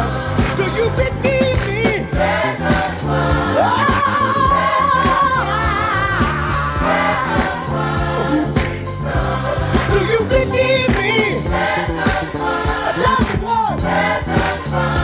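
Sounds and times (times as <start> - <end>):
bass and drums: 0.0 - 15.0
choir singing: 0.0 - 15.0.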